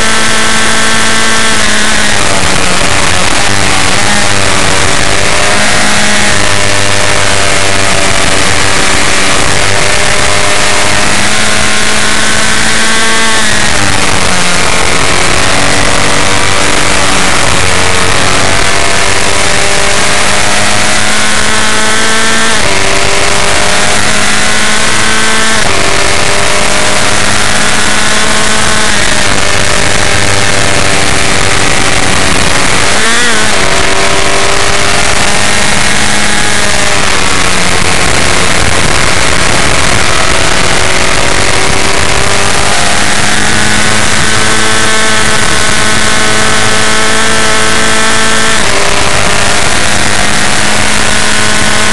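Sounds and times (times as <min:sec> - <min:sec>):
other race cars: 0:00.0 - 0:51.9
race car engine revving: 0:00.0 - 0:51.9.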